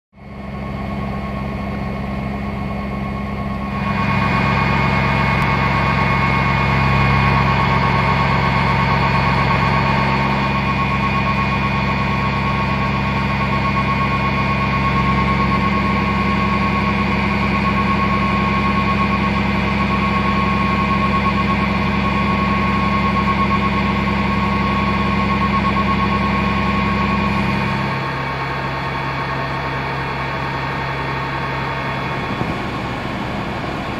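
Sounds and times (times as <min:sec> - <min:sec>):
constant engine whine: 0:00.2 - 0:33.9
diesel engines idling: 0:01.0 - 0:33.9.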